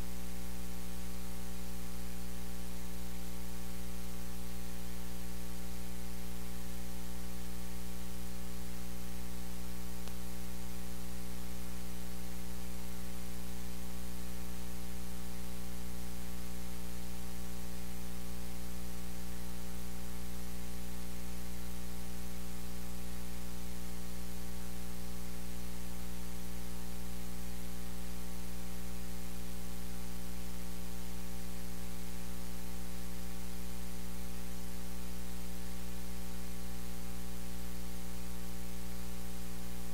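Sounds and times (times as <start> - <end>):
electrical mains hum: 0.0 - 39.9
static hiss: 0.0 - 39.9.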